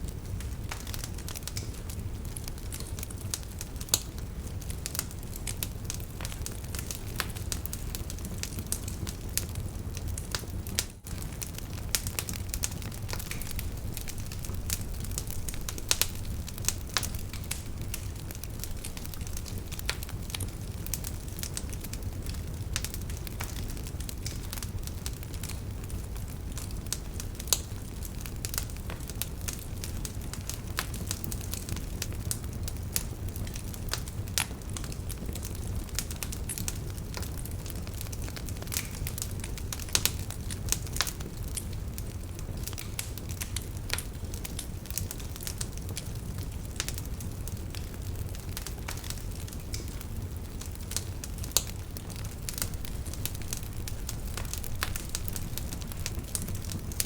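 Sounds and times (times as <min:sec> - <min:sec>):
fire crackling and snapping: 0:00.0 - 0:57.0
wood fire rumbling: 0:00.0 - 0:57.0.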